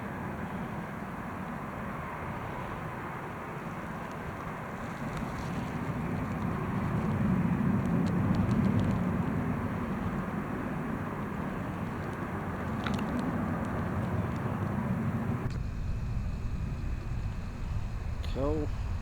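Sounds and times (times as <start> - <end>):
jet engines rumbling: 0.0 - 19.0
wind on microphone: 2.3 - 19.0.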